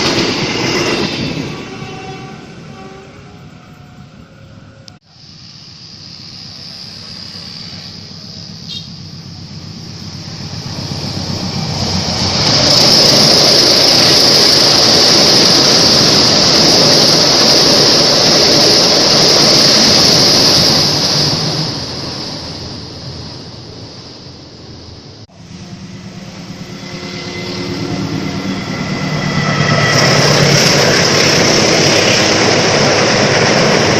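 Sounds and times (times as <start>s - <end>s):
wheels squealing on rails: 0.0s - 5.4s, 6.0s - 22.7s, 25.4s - 33.9s
train passing at speed: 0.0s - 33.9s.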